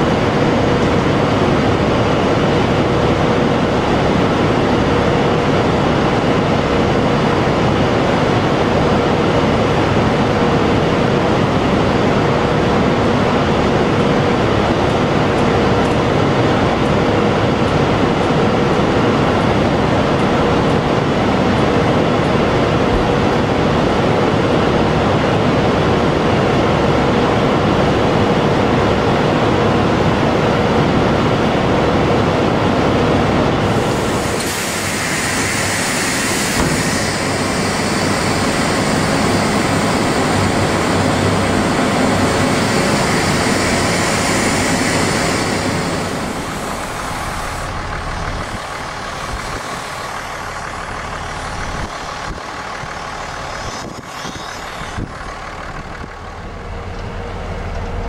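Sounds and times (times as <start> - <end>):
auger running with mechanical rush: 0.0 - 58.0.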